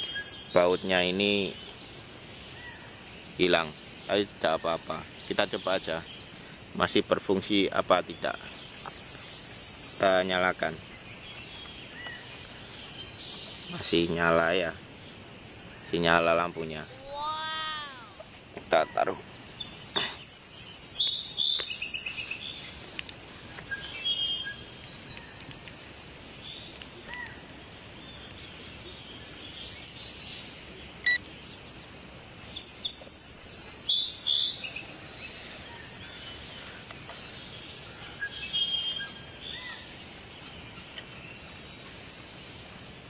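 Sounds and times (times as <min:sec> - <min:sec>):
songbirds chirping: 0:00.0 - 0:43.0
steady background hiss: 0:00.0 - 0:43.0.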